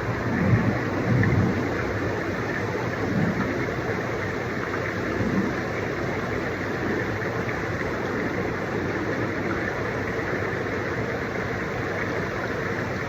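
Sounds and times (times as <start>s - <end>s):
hot tub jets churning water: 0.0s - 13.0s.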